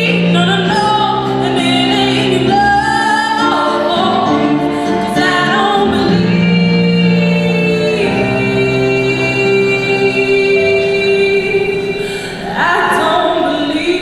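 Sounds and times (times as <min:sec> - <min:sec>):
voices singing in harmony: 0:00.0 - 0:14.0.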